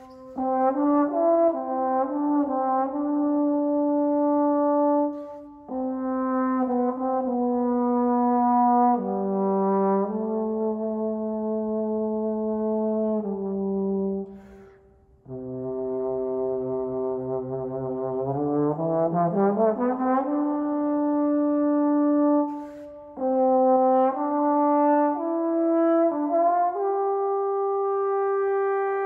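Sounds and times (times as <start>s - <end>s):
solo trombone playing: 0.0s - 29.0s.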